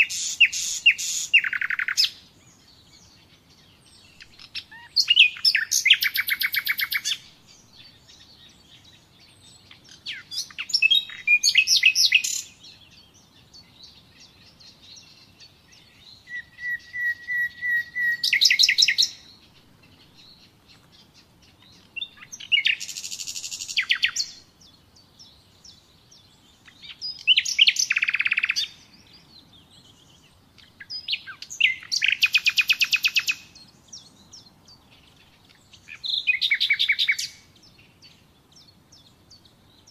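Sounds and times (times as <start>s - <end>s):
nightingale singing trills: 0.0s - 39.9s.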